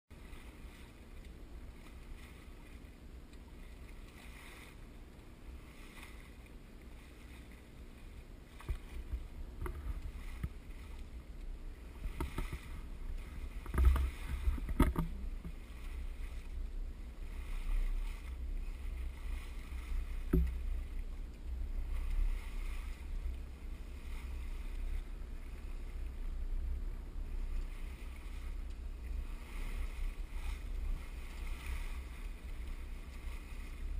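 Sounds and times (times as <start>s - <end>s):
water swishing: 0.1s - 33.9s.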